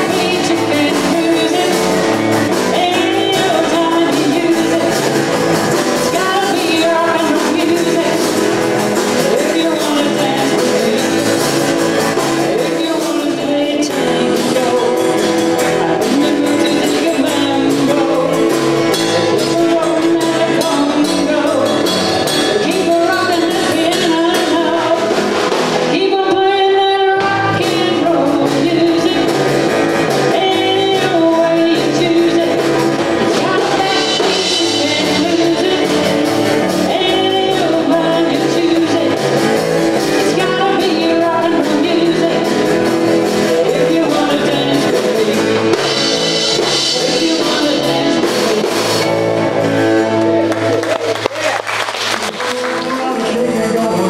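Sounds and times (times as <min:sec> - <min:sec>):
man singing: 0:00.0 - 0:49.4, 0:52.4 - 0:54.0
rock band playing live: 0:00.0 - 0:54.0.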